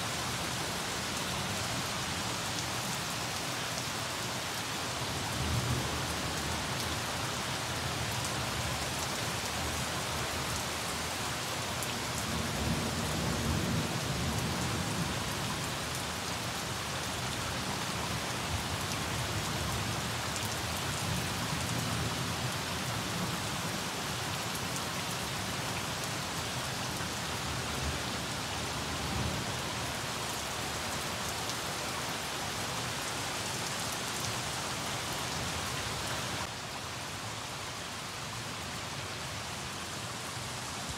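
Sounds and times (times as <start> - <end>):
heavy rain on pavement: 0.0 - 40.9.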